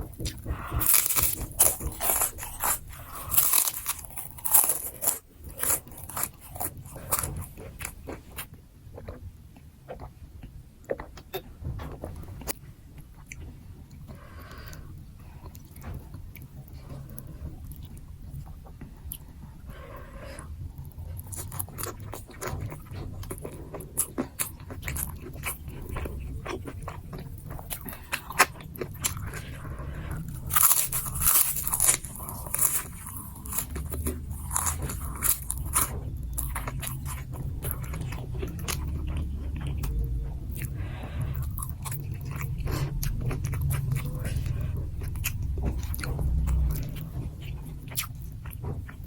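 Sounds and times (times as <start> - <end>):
chewing and biting crunchy food: 0.0 - 14.8, 15.4 - 49.0
steady low hum: 0.0 - 49.0.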